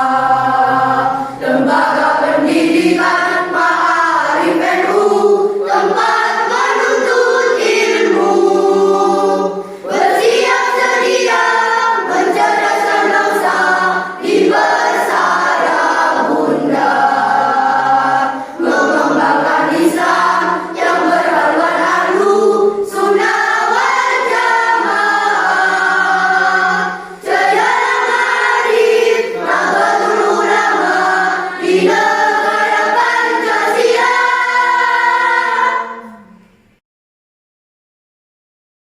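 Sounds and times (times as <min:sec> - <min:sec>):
choir singing in unison: 0:00.0 - 0:36.6.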